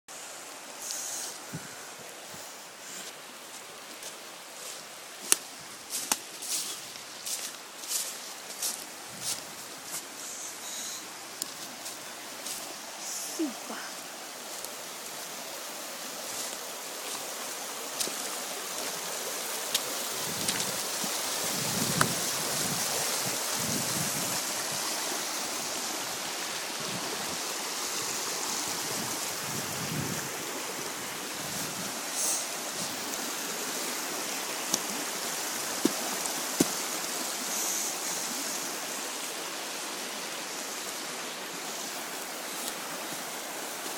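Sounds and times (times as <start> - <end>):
rushing whitewater: 0.1 - 43.9.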